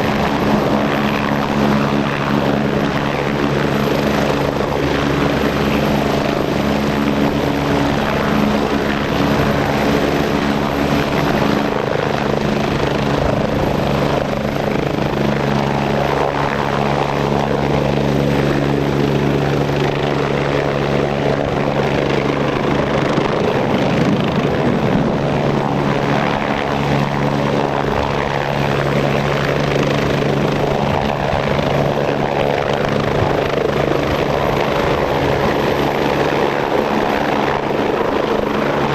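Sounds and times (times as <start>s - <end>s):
helicopter turbine and rotor: 0.0s - 38.9s.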